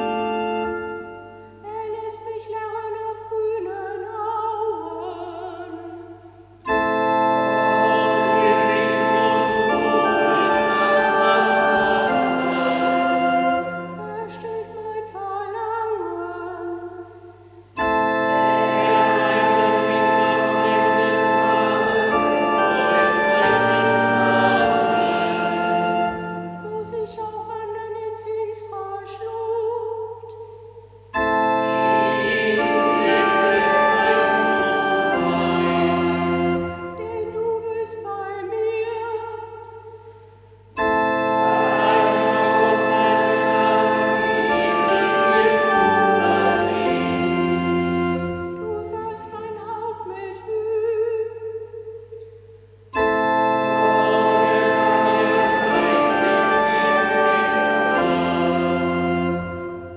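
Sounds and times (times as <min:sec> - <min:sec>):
church organ playing a hymn: 0:00.0 - 0:02.0, 0:04.7 - 0:14.8, 0:15.5 - 0:27.8, 0:30.8 - 0:39.8, 0:40.4 - 0:49.4, 0:52.6 - 0:59.9.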